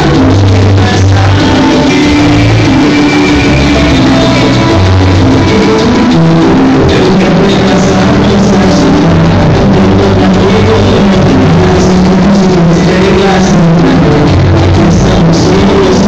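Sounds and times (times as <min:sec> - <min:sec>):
loud salsa music: 0:00.0 - 0:16.0.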